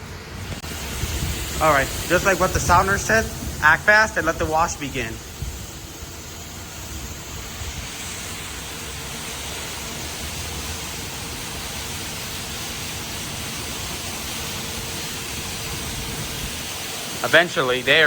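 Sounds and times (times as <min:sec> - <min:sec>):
steady rushing hiss: 0:00.0 - 0:18.0.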